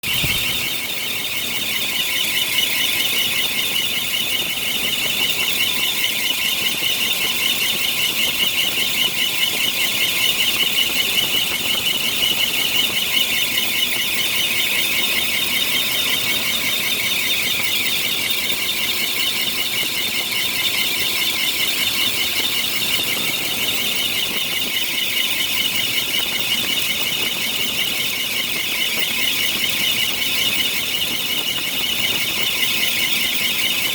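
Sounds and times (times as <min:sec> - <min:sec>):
compressor squealing with warble: 0:00.0 - 0:33.9.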